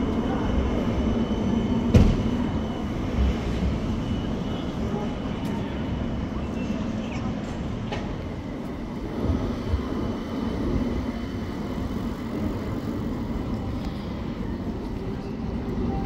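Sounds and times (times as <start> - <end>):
city street background noise: 0.0 - 16.0
tram rumbling along track: 0.0 - 16.0.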